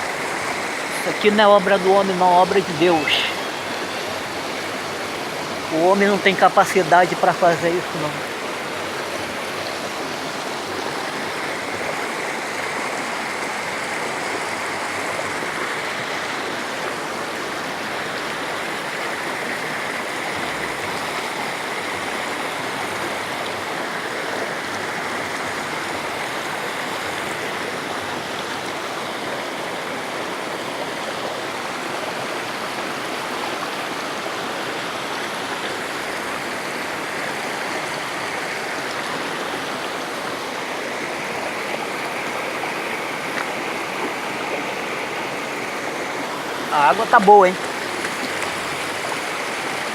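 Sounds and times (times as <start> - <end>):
fast-flowing water rushing: 0.0 - 49.9.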